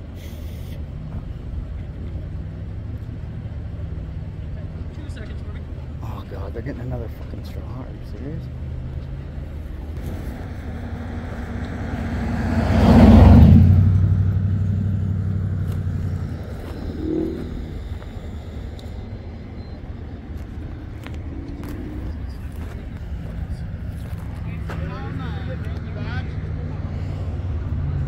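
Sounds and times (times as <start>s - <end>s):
low traffic hum: 0.0s - 28.0s
vehicle passing by: 2.1s - 28.0s.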